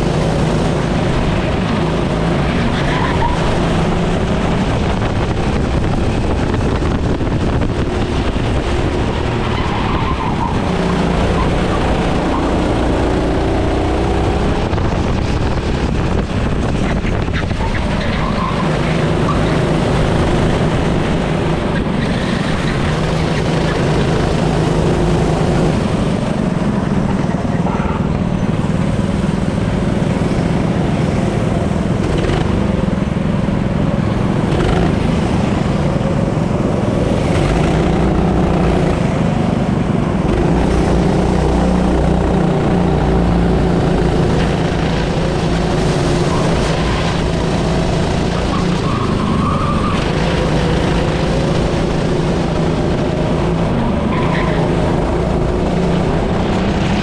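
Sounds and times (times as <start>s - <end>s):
racing engine revving: 0.0s - 57.0s.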